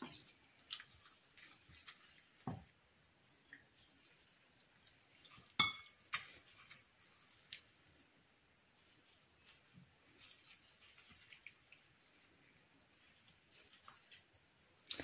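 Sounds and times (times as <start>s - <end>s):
wet squishing of fish: 0.0s - 15.0s.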